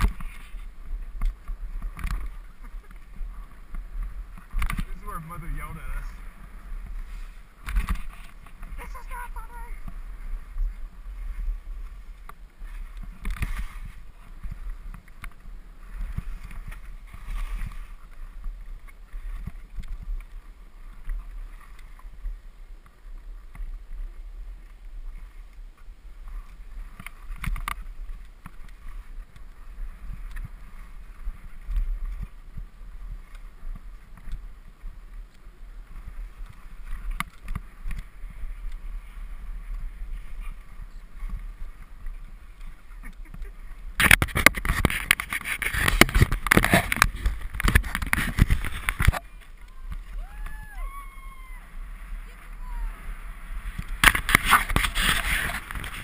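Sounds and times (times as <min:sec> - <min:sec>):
skis scraping over snow: 0:00.0 - 0:50.9, 0:51.6 - 0:56.0
wind rushing over microphone: 0:00.0 - 0:56.0.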